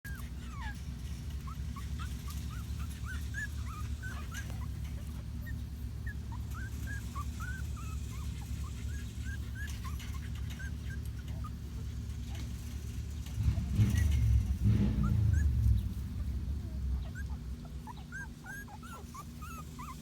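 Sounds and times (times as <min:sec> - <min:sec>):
puppies whimpering and squeaking: 0:00.1 - 0:20.0.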